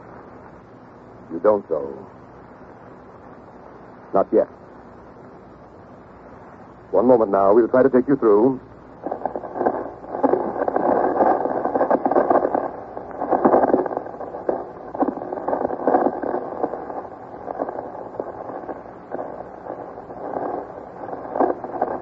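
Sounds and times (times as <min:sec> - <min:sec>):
crackling radio static: 0:00.0 - 0:22.0.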